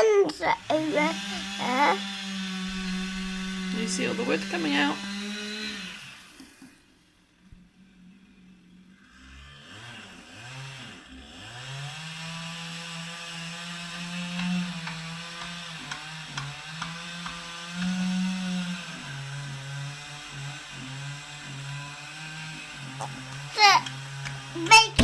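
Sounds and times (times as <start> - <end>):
chainsaw cutting tree trunk: 0.0 - 6.9, 8.9 - 25.0.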